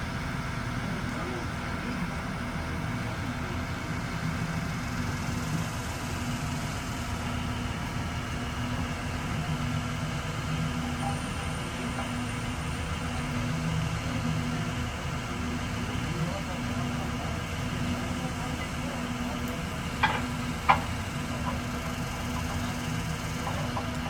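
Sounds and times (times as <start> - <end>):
large engine idling: 0.0 - 24.0.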